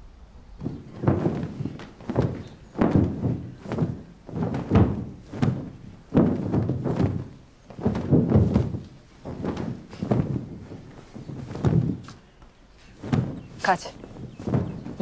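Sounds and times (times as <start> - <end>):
heavy blankets flapping: 0.3 - 15.0.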